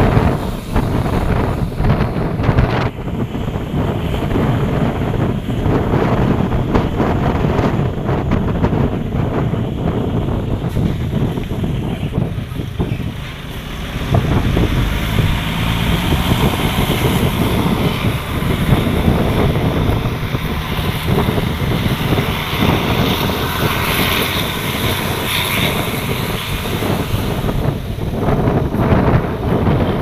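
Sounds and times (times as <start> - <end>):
bus driving past: 0.0 - 30.0
wind buffeting microphone: 0.0 - 30.0.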